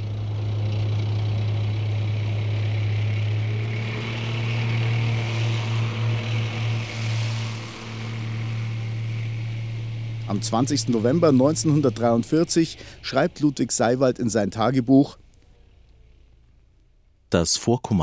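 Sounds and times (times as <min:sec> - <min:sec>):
tank engine drone: 0:00.0 - 0:17.3.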